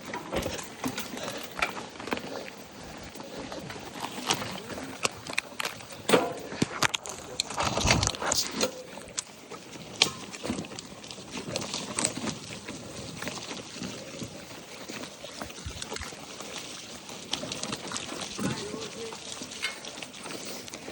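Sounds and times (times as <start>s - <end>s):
bike clicks and rattles: 0.0s - 20.9s.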